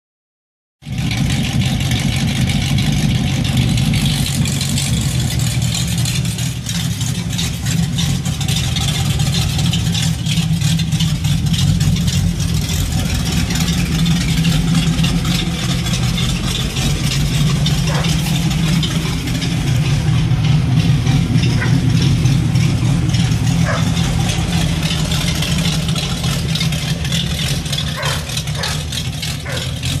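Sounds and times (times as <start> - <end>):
car engine idling roughly: 0.8 - 30.0.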